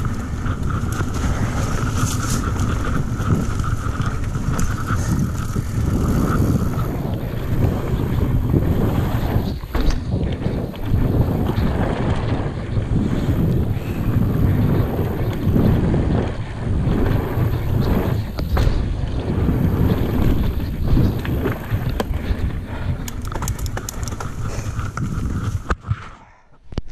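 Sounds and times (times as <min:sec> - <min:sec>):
wind buffeting microphone: 0:00.0 - 0:25.8
bike clicking and rattling: 0:00.0 - 0:26.0
tyres rolling on dirt trail: 0:00.0 - 0:26.0.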